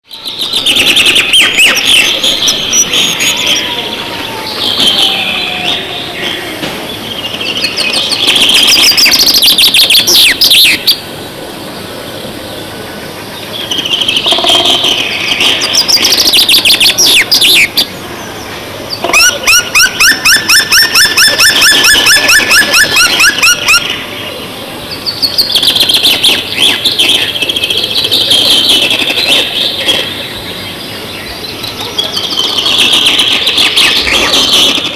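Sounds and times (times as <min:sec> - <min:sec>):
songbirds chirping and warbling: 0:00.0 - 0:34.9
bird trill: 0:00.1 - 0:11.1, 0:13.4 - 0:17.9, 0:18.9 - 0:34.9.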